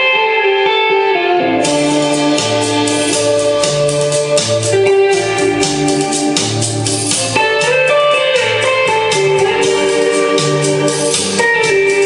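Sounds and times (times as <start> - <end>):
guitar music: 0.0 - 12.0
bass line: 1.4 - 12.0.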